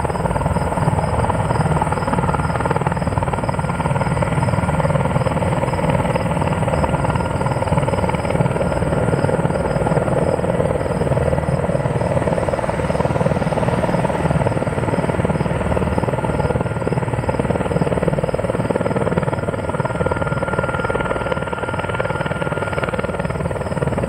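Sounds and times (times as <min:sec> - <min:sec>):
helicopter rotor noise: 0:00.0 - 0:24.0.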